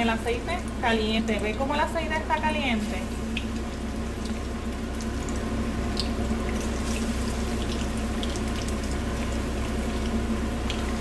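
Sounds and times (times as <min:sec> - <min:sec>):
food sizzling in hot oil: 0:00.0 - 0:11.0
oil popping and crackling: 0:00.0 - 0:11.0.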